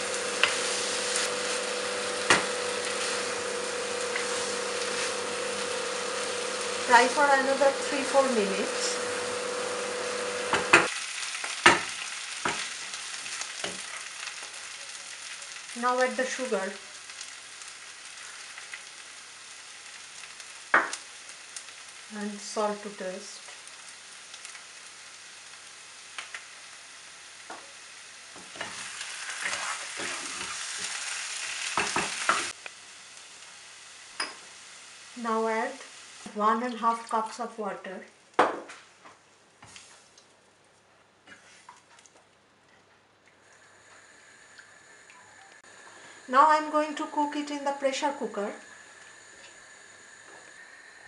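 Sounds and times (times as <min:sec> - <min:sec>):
curry sizzling in a pan: 0:00.0 - 0:40.4, 0:43.4 - 0:51.0.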